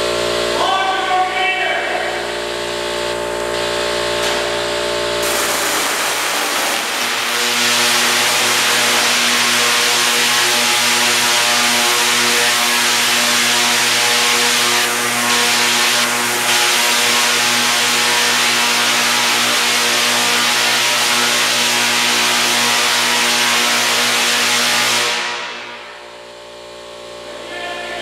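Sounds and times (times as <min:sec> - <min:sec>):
tesla coil buzzing and crackling: 0:02.7 - 0:25.8.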